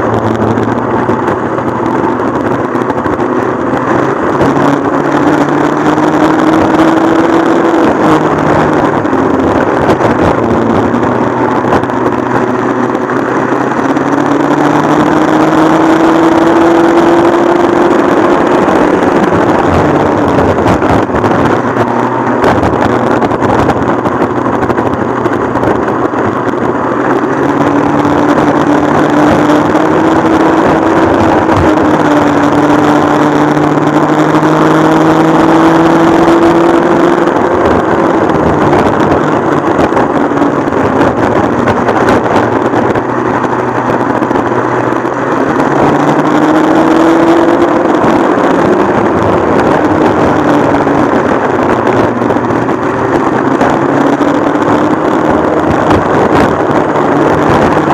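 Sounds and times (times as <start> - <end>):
kart engine running under load: 0.0 - 57.9.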